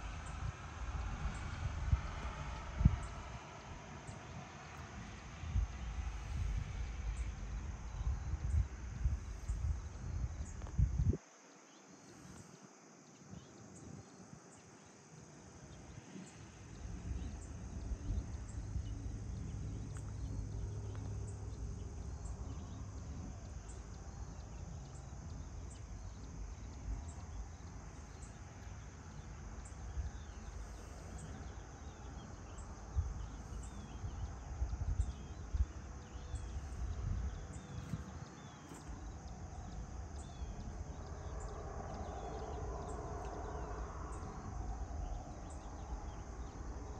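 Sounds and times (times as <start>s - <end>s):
low rumble: 0.0s - 11.2s, 16.5s - 46.9s
crickets chirring: 0.0s - 46.9s.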